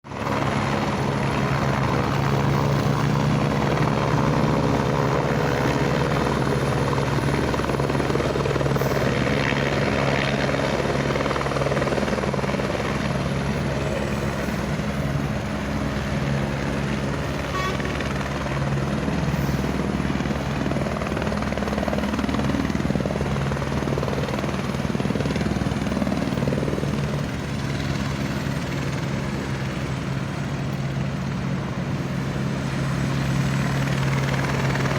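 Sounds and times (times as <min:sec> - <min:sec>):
helicopter rotor and turbine: 0:00.0 - 0:34.9.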